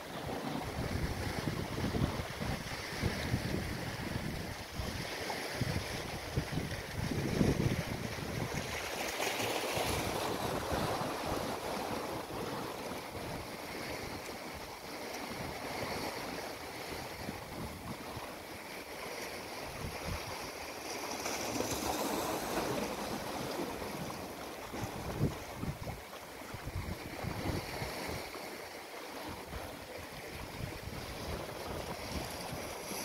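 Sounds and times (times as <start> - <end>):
waves washing among rocks: 0.0 - 33.0.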